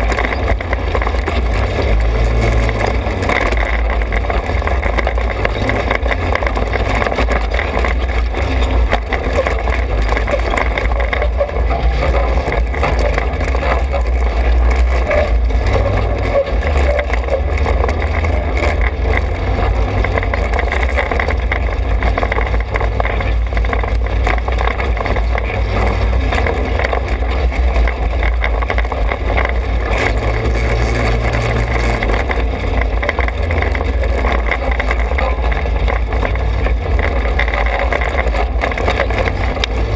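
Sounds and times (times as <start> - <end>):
constant rushing noise: 0.0 - 39.9
go-kart engine running: 0.0 - 39.9.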